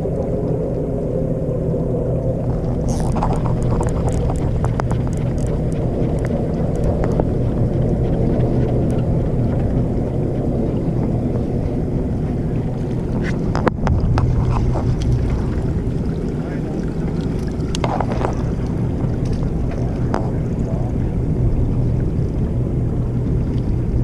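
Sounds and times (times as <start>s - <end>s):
boat engine running: 0.0s - 24.0s
wind on microphone: 0.0s - 24.0s.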